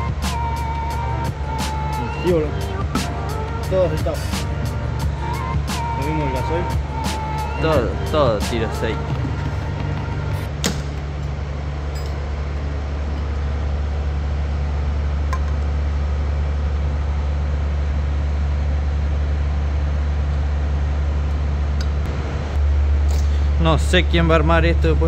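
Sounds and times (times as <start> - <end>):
low machine drone with hiss: 0.0 - 25.0.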